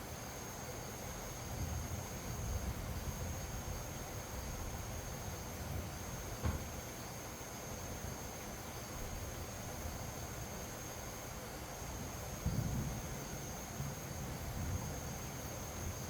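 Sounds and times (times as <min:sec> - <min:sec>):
high insect trill: 0:00.0 - 0:16.0.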